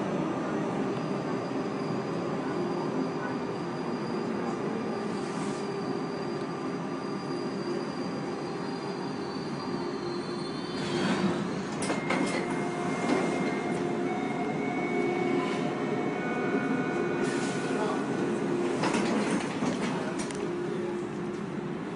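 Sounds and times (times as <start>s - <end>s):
subway train rumble: 0.0s - 21.9s
long whining squeals: 0.8s - 18.5s
train doors sliding open: 0.9s - 21.6s.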